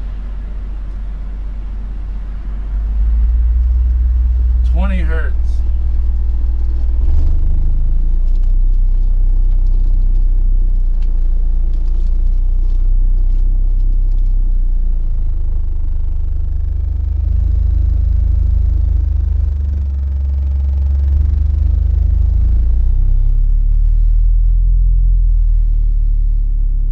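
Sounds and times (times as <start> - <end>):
deep bass test tone: 0.0 - 26.9.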